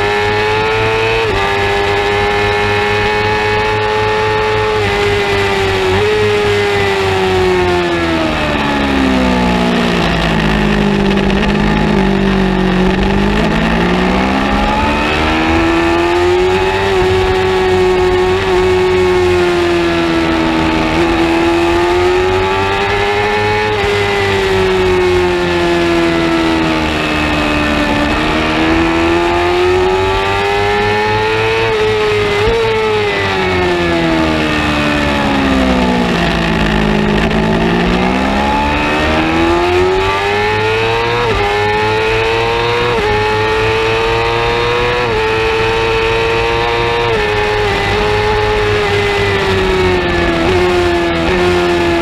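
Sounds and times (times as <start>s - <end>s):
racing motorcycle engine revving: 0.0s - 52.0s.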